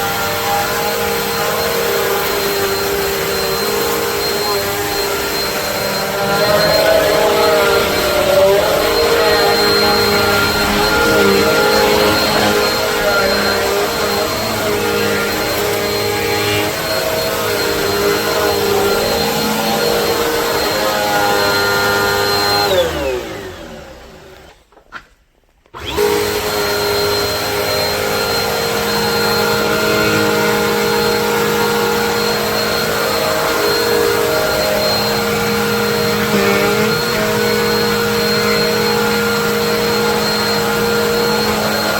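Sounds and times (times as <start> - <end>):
vacuum cleaner whining: 0.0 - 25.0, 25.6 - 41.9.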